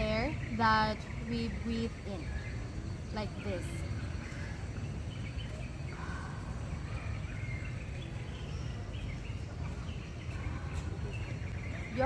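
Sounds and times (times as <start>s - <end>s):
faint bird chirps: 0.0s - 12.0s
low background rumble: 0.0s - 12.0s.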